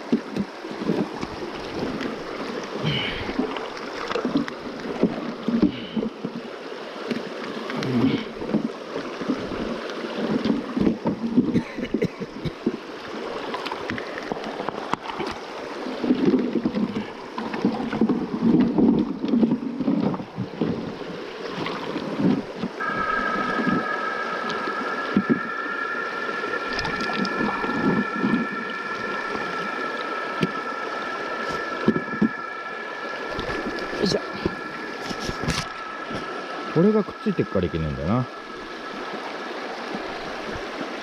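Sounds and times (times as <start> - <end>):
river water sloshing and splashing: 0.0 - 41.0.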